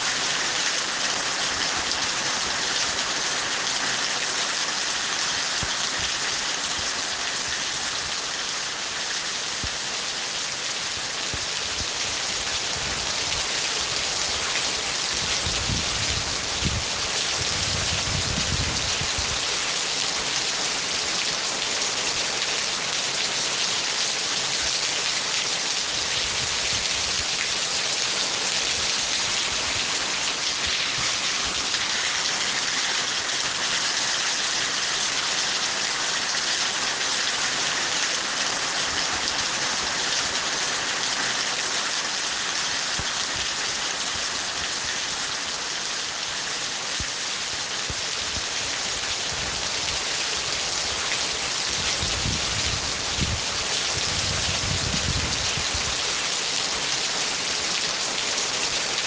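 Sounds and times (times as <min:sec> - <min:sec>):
dense rain hissing: 0:00.0 - 0:59.0.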